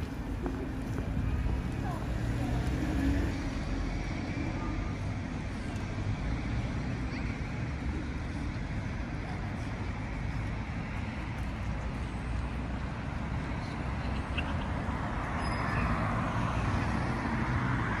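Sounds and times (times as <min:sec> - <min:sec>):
street traffic noise: 0:00.0 - 0:18.0
vehicles passing: 0:00.0 - 0:18.0.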